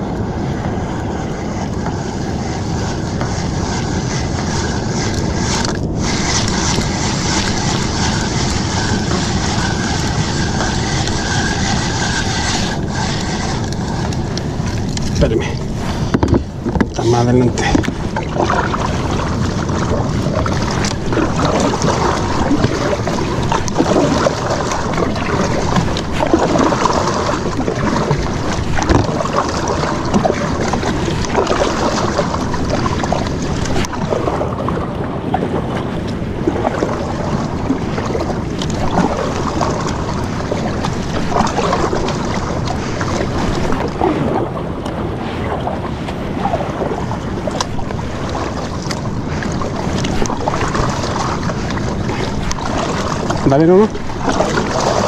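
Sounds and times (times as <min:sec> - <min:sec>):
paddle splashing water: 0:00.0 - 0:55.0
wind buffeting microphone: 0:00.0 - 0:55.0.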